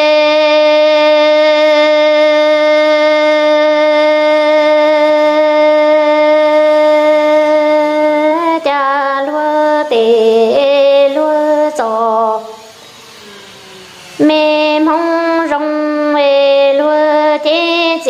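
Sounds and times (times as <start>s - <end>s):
person singing unaccompanied: 0.0s - 18.0s.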